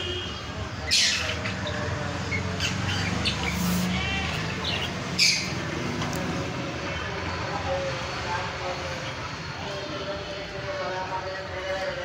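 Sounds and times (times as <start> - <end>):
small birds chirping: 0.0 - 9.7.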